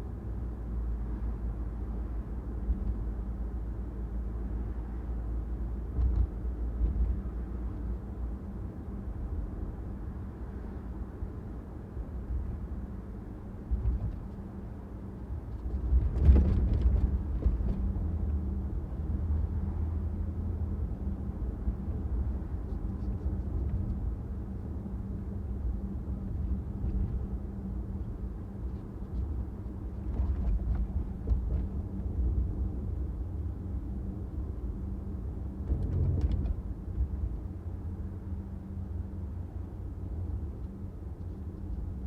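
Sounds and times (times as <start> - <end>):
road and engine rumble: 0.0 - 42.0.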